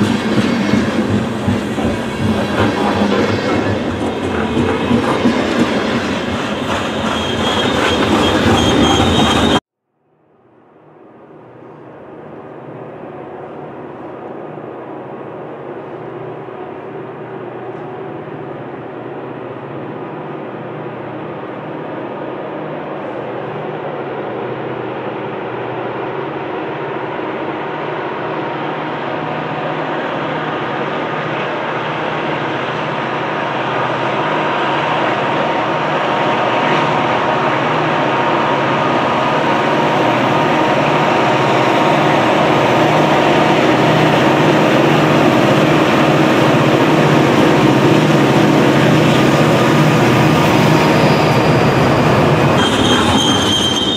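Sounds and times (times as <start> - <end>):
diesel locomotive engines droning: 0.0 - 9.6, 10.7 - 53.9.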